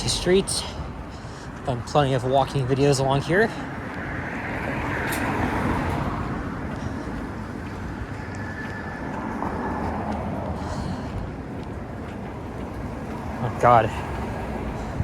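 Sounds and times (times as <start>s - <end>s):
cars passing on road: 0.0s - 15.0s.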